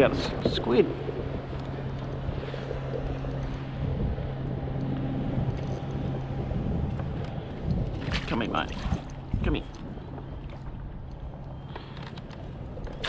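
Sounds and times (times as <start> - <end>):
low engine drone: 0.0 - 13.0
water noise: 0.0 - 13.0
wind: 0.0 - 13.0.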